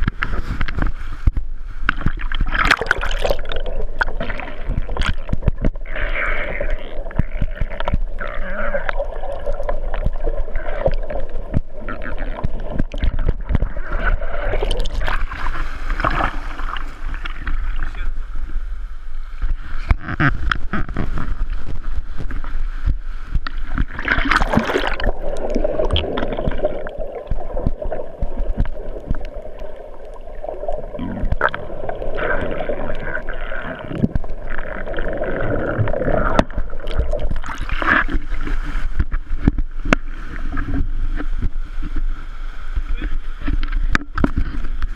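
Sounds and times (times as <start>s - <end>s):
water churning and gurgling: 0.0s - 44.9s
waves and swimmers splashing: 0.0s - 44.9s.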